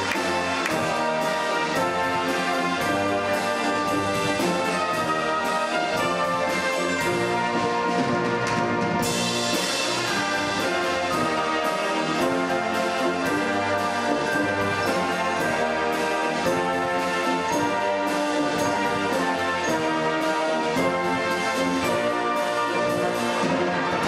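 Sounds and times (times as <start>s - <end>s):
brass-led orchestral music: 0.0s - 24.0s.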